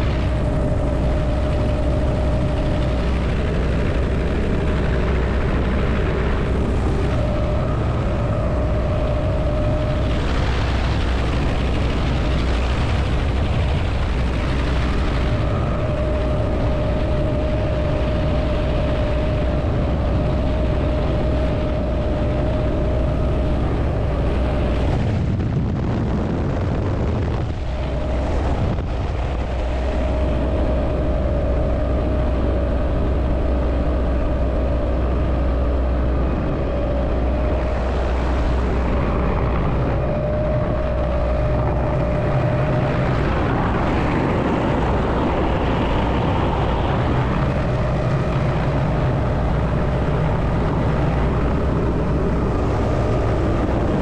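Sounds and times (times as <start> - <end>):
helicopter rotor and turbine roar: 0.0 - 54.0
rushing air: 0.0 - 54.0.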